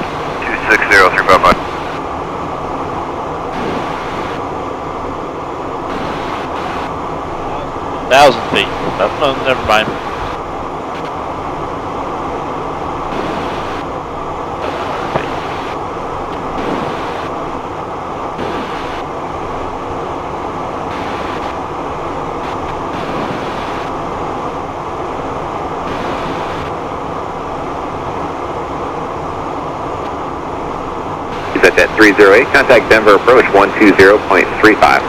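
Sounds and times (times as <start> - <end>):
jet engines and rushing airflow: 0.0 - 35.0.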